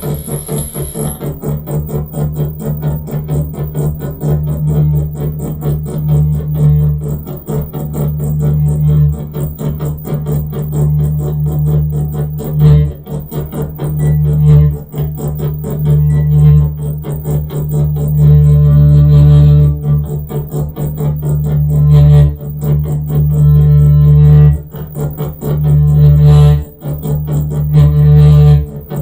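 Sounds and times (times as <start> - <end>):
pulsing electronic buzz: 0.0 - 29.0.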